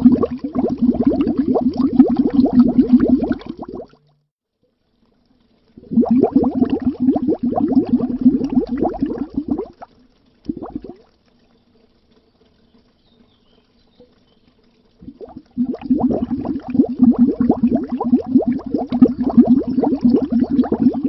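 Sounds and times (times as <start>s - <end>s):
underwater bubbling: 0.0s - 4.1s, 5.6s - 12.9s, 14.1s - 21.0s.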